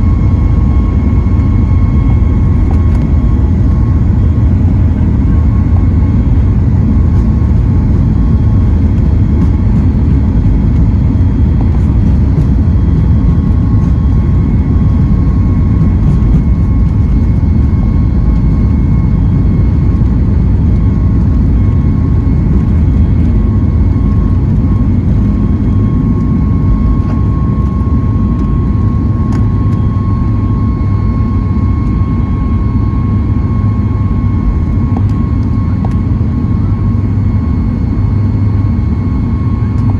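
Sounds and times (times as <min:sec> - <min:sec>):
jet engine rumble in cabin: 0:00.0 - 0:39.9
jet engine whine: 0:00.0 - 0:39.9.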